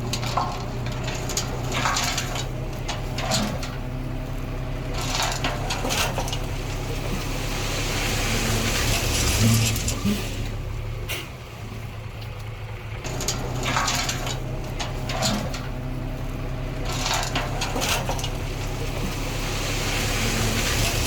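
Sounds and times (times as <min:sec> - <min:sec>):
soil and rubble crunching: 0:00.0 - 0:10.6, 0:12.2 - 0:21.0
diesel engine running: 0:00.0 - 0:21.0.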